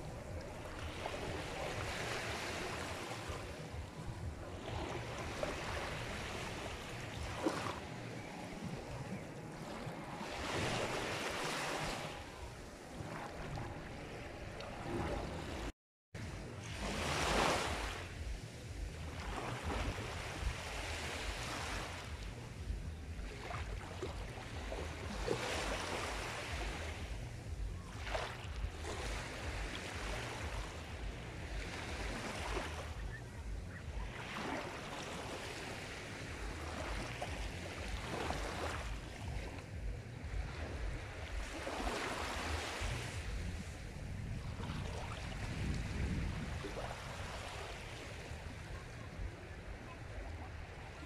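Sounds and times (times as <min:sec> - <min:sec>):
waves washing ashore: 0:00.0 - 0:51.0.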